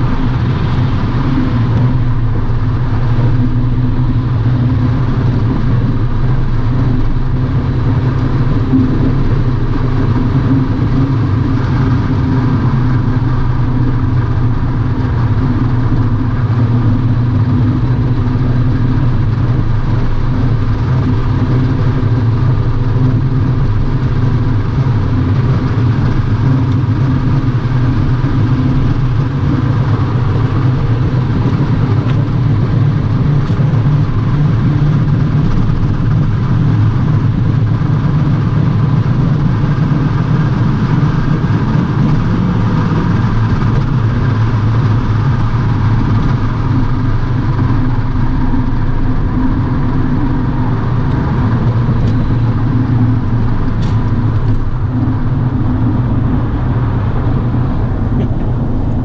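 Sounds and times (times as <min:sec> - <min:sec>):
car engine droning: 0:00.0 - 0:59.0
tyres on highway: 0:00.0 - 0:59.0.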